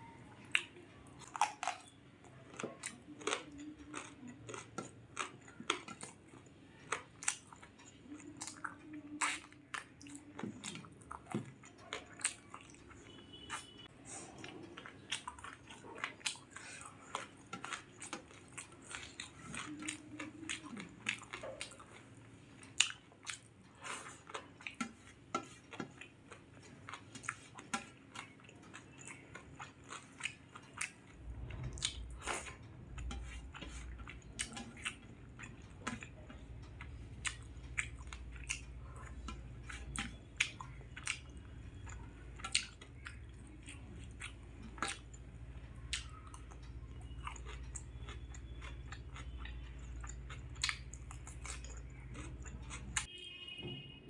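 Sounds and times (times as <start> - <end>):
person chewing: 0.0 - 53.2.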